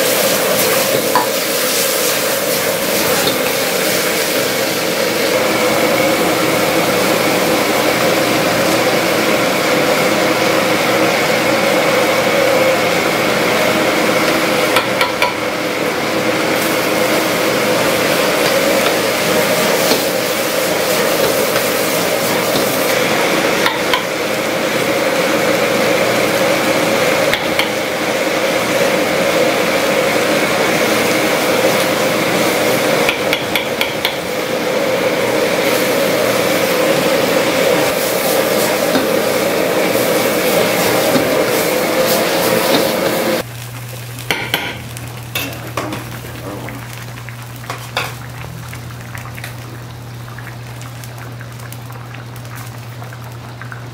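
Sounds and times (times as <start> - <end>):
gas burner rushing: 0.0 - 49.9
food sizzling in a wok: 0.0 - 53.9.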